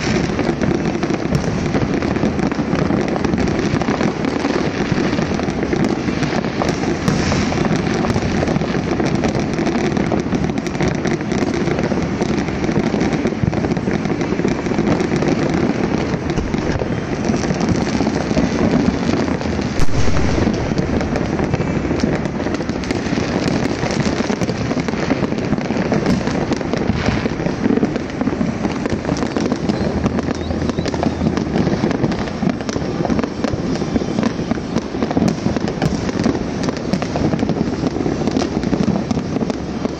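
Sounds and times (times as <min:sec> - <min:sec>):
loud firework bang: 0:00.0 - 0:10.4, 0:16.1 - 0:34.3, 0:35.2 - 0:39.3
fireworks crackling and popping: 0:00.0 - 0:39.9.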